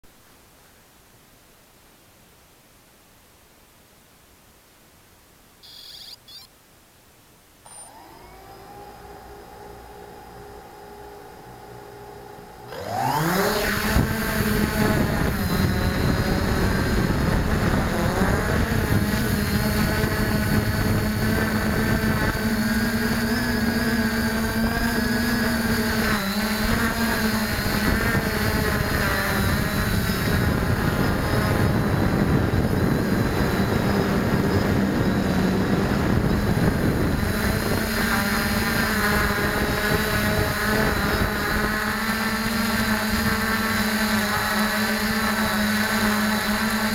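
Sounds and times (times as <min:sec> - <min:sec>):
drone propellers whining: 0:05.6 - 0:06.5, 0:07.6 - 0:46.9.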